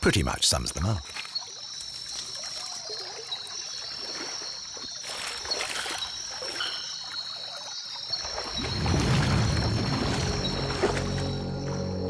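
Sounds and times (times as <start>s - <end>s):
water splashing and trickling: 0.0s - 11.9s.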